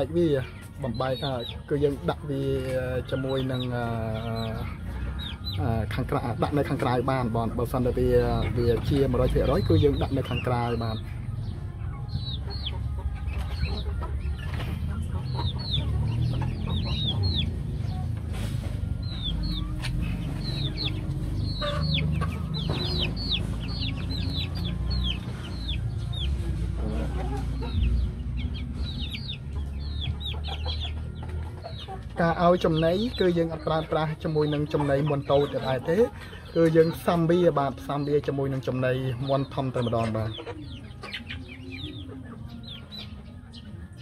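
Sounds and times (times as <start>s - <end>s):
chickens peeping: 0.0s - 44.0s.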